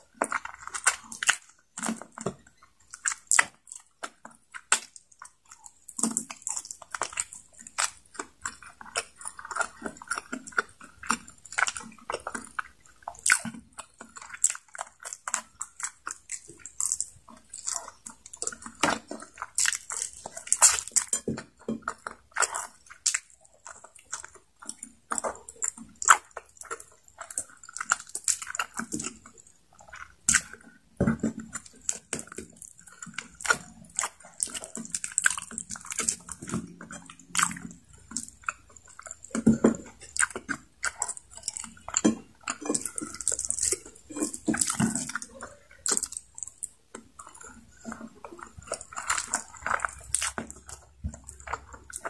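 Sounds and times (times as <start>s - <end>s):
chewing and biting: 0.0s - 52.0s
wet mouth clicks and smacks: 0.0s - 52.0s.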